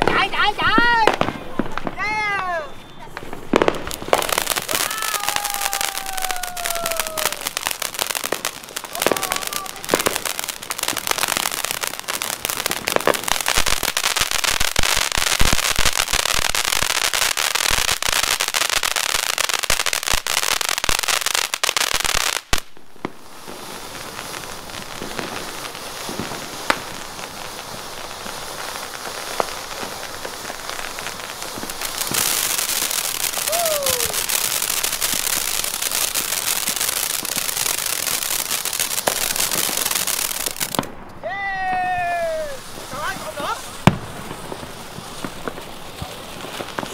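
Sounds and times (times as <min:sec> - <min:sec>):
fireworks fountain crackling hiss: 0:00.0 - 0:46.9.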